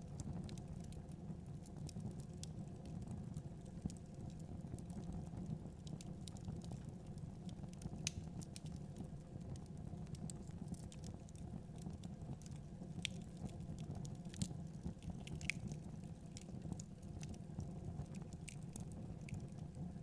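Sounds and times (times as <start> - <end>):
fire pops and snaps: 0.0 - 20.0
wood fire crackling: 0.0 - 20.0.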